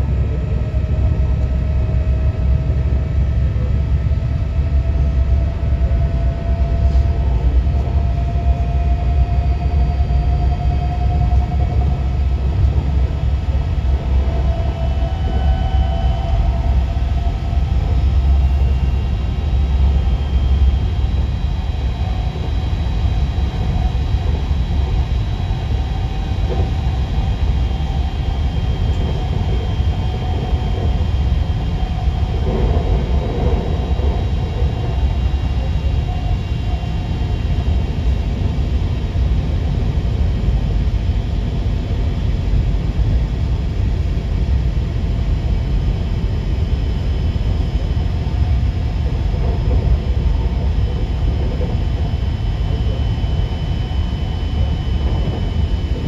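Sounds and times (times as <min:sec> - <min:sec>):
train equipment hum and rumble: 0:00.0 - 0:56.0.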